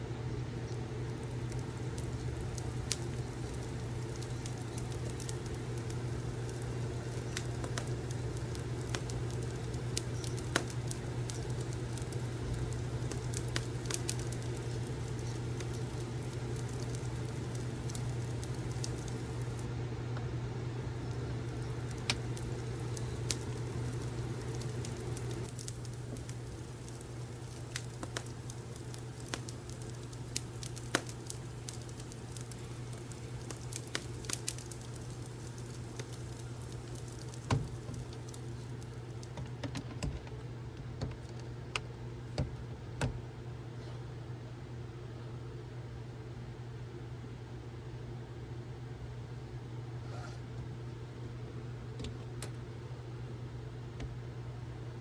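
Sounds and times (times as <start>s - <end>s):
wood fire crackling: 0.0s - 44.2s, 49.9s - 55.0s
steady low hum: 0.0s - 55.0s.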